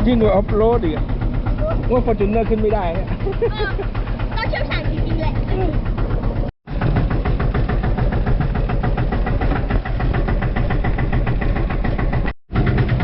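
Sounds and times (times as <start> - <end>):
vehicle engine chugging under load: 0.0 - 13.0.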